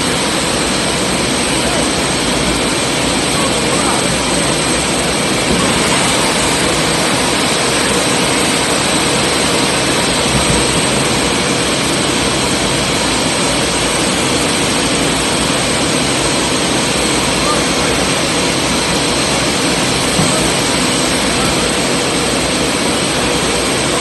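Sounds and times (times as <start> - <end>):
hydraulic machinery whine: 0.0 - 24.0.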